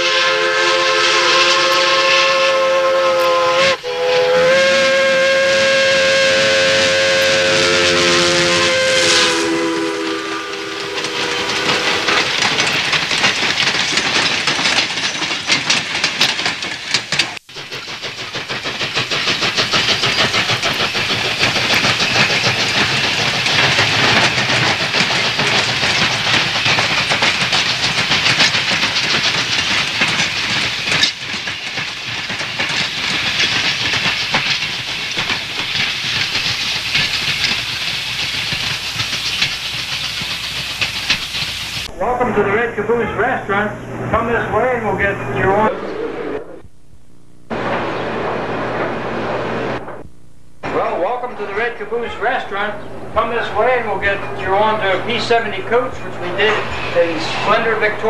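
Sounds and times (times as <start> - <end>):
train rushing hiss: 0.0 - 14.4, 16.1 - 45.7, 50.7 - 58.0
rapid train clatter: 0.0 - 45.7, 50.7 - 58.0.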